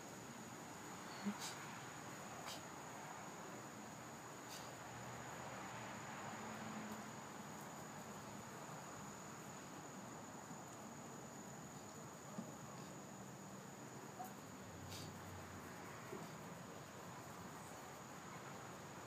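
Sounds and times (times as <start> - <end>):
insect trill: 0.0 - 19.0.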